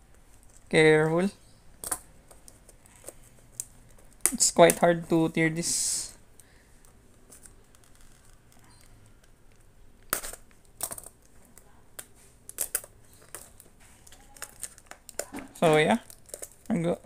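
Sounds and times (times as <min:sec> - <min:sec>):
plastic wrap crackling: 0:01.7 - 0:17.0.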